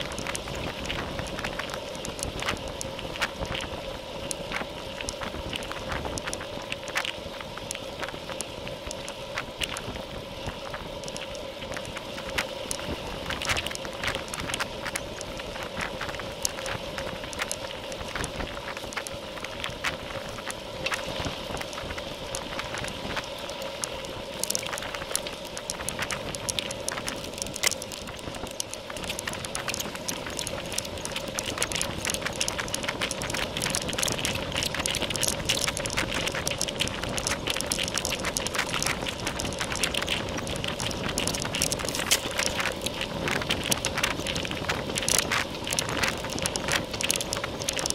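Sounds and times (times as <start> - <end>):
constant hum: 0.0 - 47.9
small clicks and rattles: 0.0 - 47.9
tyre and wind rush: 0.0 - 47.9.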